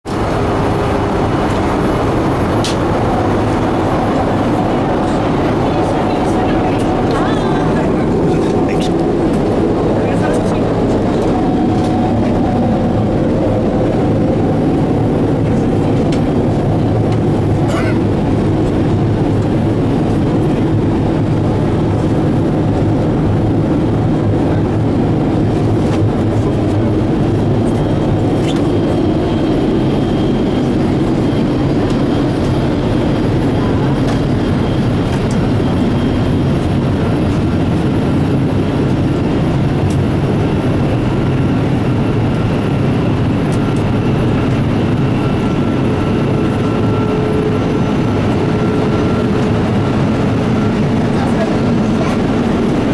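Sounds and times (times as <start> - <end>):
airplane cabin engine noise: 0.0 - 52.9.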